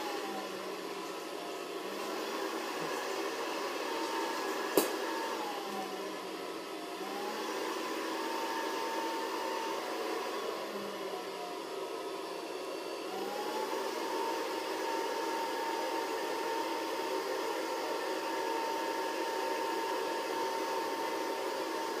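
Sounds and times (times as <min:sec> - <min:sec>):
appliance motor whirring: 0:00.0 - 0:12.3, 0:13.0 - 0:22.0
thin motor whine: 0:00.0 - 0:22.0.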